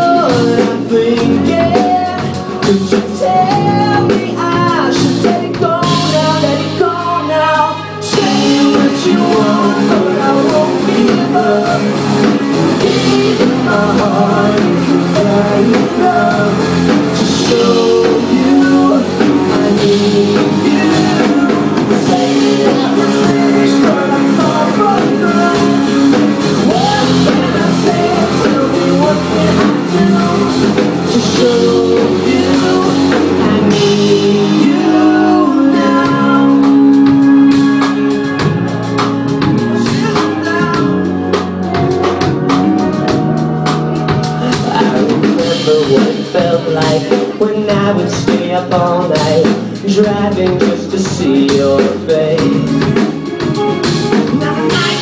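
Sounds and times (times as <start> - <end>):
pop-rock song with male vocal: 0.0 - 55.0.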